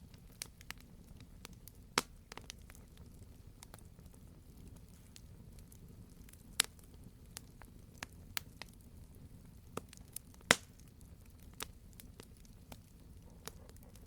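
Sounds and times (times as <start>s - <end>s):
low rumble of wood fire: 0.0s - 14.0s
wood fire popping and snapping: 0.0s - 14.0s.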